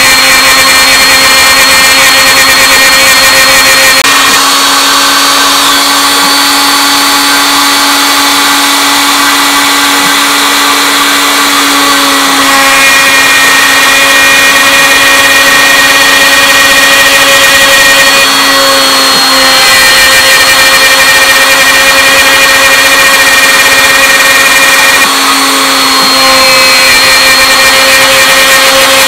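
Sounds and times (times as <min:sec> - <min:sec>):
router spindle whining: 0:00.0 - 0:29.0.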